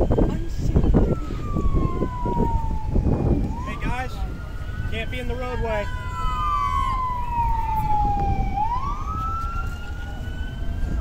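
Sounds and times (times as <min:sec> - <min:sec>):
fainter second siren: 0:00.0 - 0:11.0
police siren wailing: 0:00.0 - 0:11.0.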